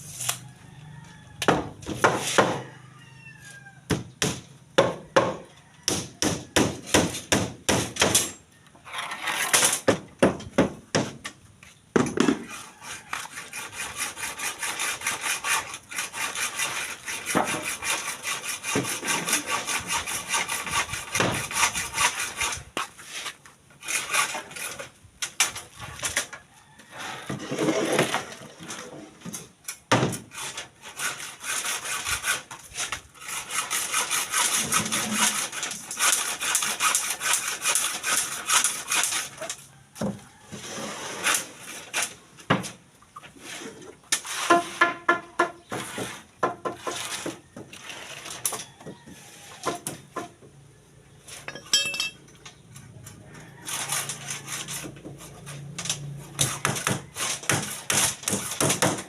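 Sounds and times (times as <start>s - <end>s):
hand saw strokes: 0.0s - 2.8s, 4.3s - 9.9s, 12.3s - 26.3s, 30.2s - 39.7s, 40.5s - 42.5s, 43.2s - 49.9s, 51.2s - 59.0s.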